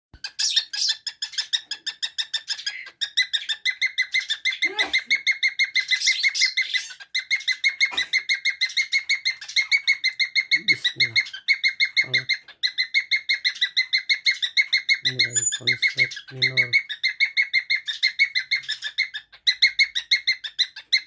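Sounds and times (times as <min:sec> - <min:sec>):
parakeet chattering call: 0:00.2 - 0:21.0.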